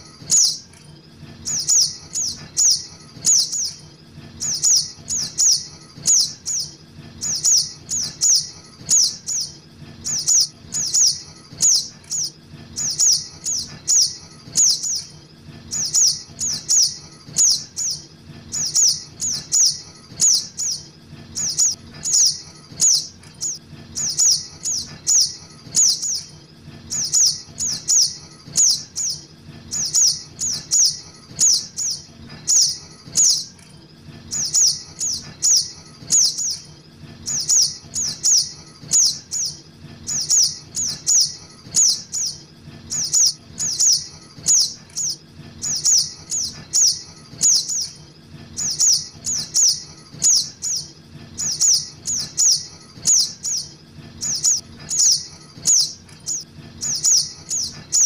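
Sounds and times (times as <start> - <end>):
bird chirping: 0.0 - 33.6, 34.2 - 58.0.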